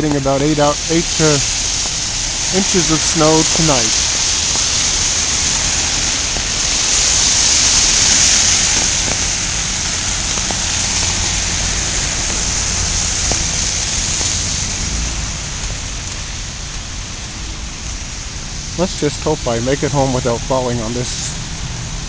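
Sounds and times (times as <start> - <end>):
hiss of heavy snowfall: 0.0 - 22.0
low rumble: 0.0 - 22.0.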